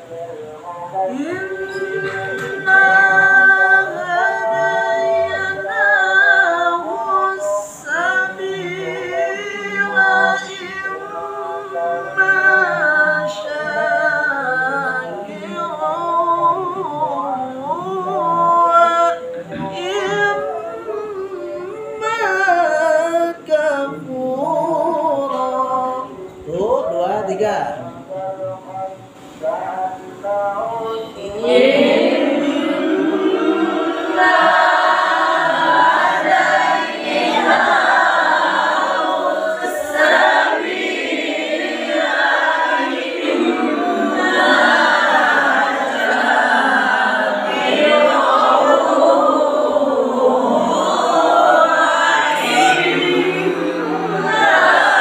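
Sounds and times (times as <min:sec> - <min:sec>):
solo voice chanting recitation: 0:00.0 - 0:55.0.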